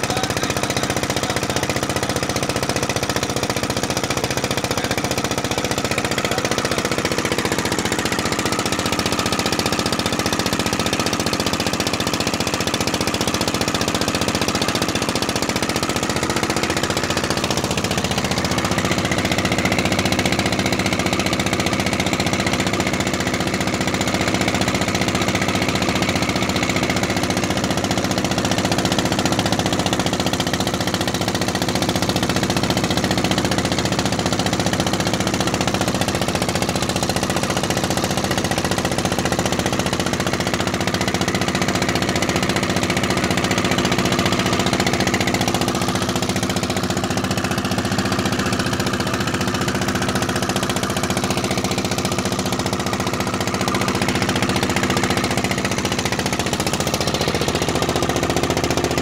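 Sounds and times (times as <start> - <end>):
motorboat engine droning: 0.0 - 59.0.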